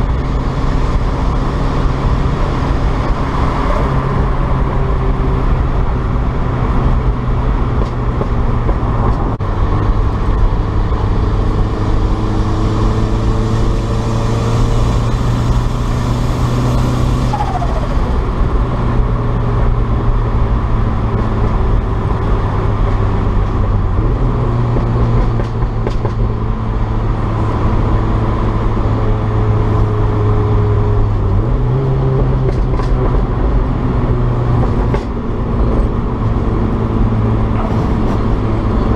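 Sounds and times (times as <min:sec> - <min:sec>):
car engine cruising: 0:00.0 - 0:38.9
road noise: 0:00.0 - 0:38.9.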